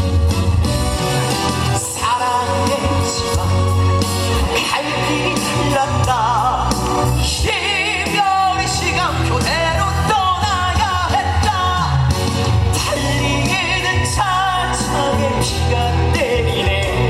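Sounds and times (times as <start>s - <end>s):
band playing bass and chords: 0.0s - 17.0s
man singing with vibrato: 1.6s - 17.0s.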